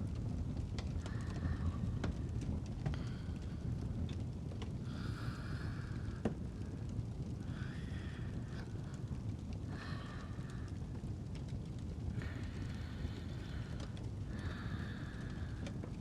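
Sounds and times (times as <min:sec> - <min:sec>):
fireplace crackling and popping: 0:00.0 - 0:16.0
soft slow breathing: 0:00.9 - 0:16.0.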